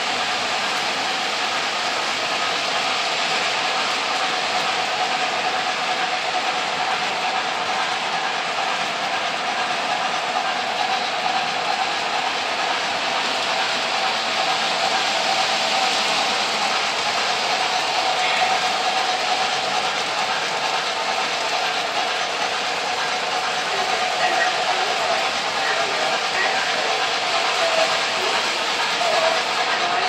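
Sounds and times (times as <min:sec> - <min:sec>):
model trains running on track: 0:00.0 - 0:30.0.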